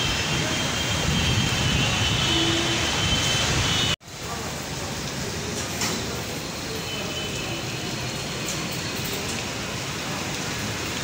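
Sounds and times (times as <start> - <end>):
heavy rain in wind: 0.0 - 11.0.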